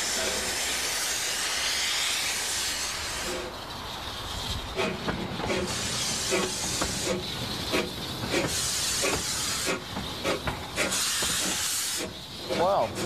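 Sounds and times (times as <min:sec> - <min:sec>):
steam hissing: 0:00.0 - 0:13.0
steam locomotive chuffs: 0:00.0 - 0:13.0.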